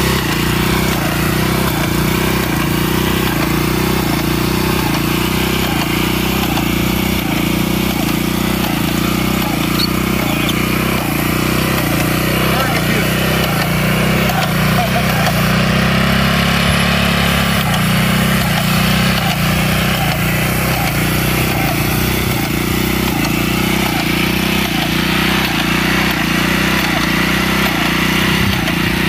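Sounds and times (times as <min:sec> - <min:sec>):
small gasoline engine running: 0:00.0 - 0:29.0.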